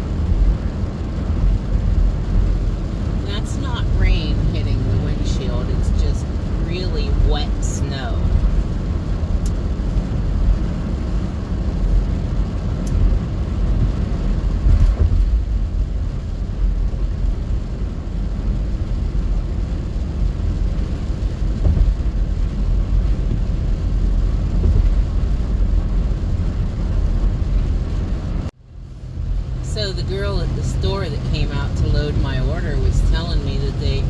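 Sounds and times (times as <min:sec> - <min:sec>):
road and engine rumble: 0:00.0 - 0:34.0.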